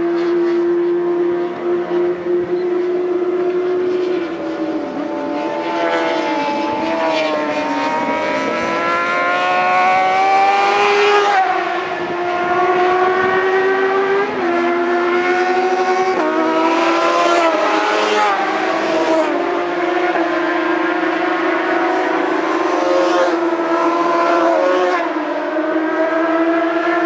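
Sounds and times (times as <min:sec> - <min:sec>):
racing motorcycle engine revving: 0:00.0 - 0:27.0.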